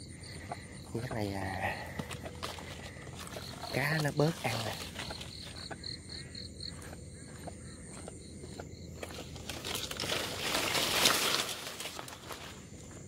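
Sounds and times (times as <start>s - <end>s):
leaves and brush rustling: 1.7s - 13.0s.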